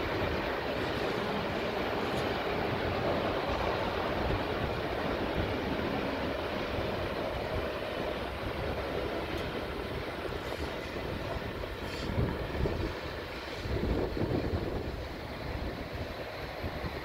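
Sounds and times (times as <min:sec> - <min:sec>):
train coaches rumbling on rails: 0:00.0 - 0:17.0.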